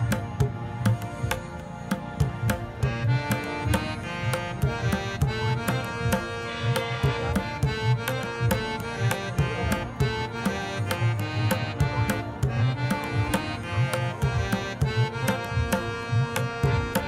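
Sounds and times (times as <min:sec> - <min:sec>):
music with percussion beat: 0:00.0 - 0:17.0.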